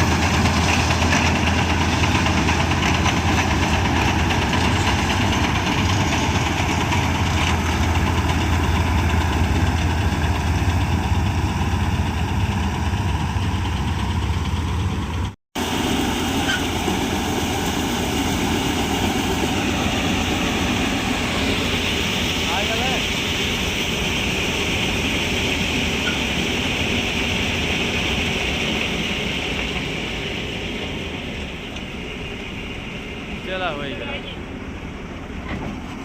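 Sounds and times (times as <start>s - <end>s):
combine harvester engine drone: 0.0s - 36.0s.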